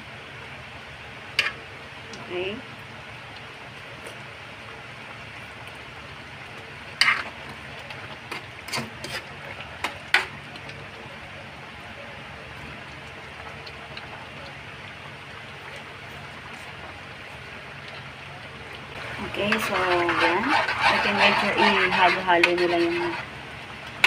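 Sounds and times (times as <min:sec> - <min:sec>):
stew simmering in a pot: 0:00.0 - 0:24.0.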